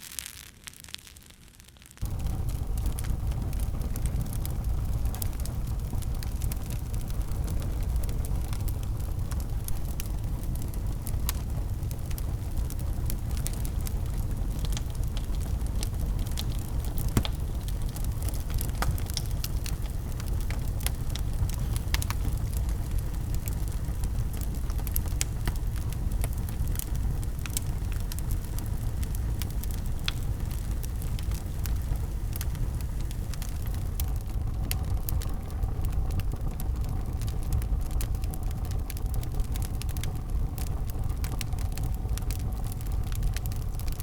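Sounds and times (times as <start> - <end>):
low rumble of flames: 0.0 - 44.0
sharp snaps of fire: 0.0 - 44.0
wood fire crackling: 0.0 - 44.0.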